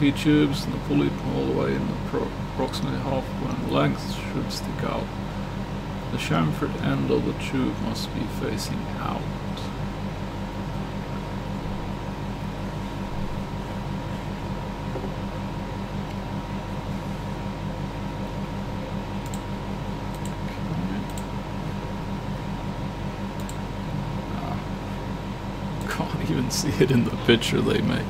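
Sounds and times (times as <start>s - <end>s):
fan-like mechanical hum: 0.0s - 28.0s.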